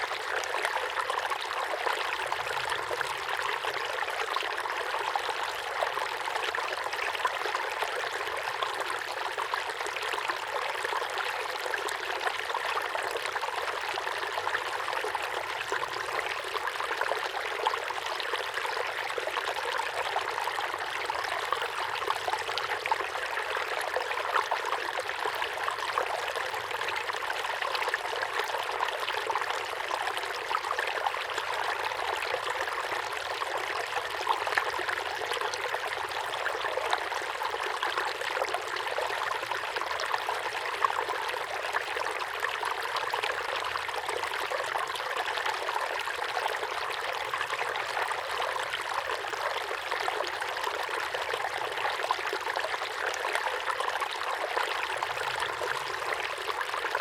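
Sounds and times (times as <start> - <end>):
waterfall pouring into a pond: 0.0 - 57.0.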